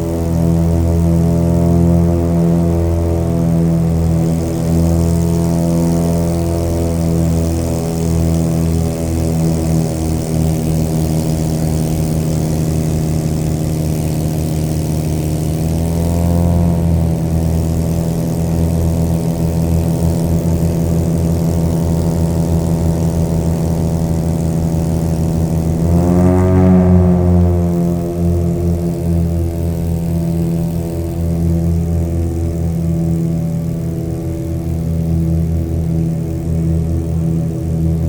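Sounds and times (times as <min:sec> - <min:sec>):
propeller airplane engine running: 0:00.0 - 0:38.0.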